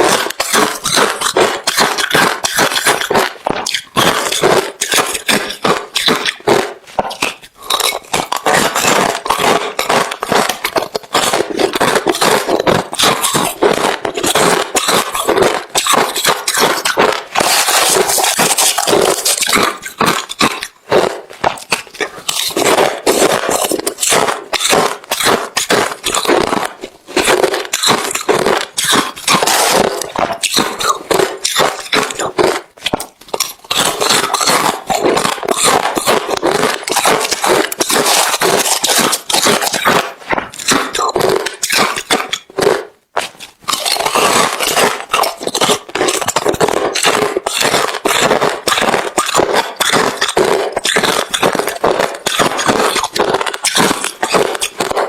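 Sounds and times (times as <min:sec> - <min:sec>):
chewing crushed ice: 0:00.0 - 0:55.0.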